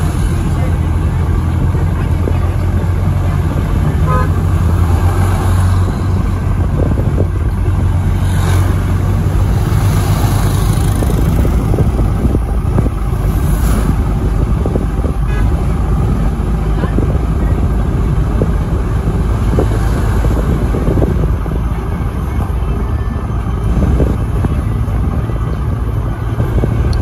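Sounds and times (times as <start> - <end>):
road noise: 0.0 - 27.0
vehicle engine hum: 0.0 - 27.0.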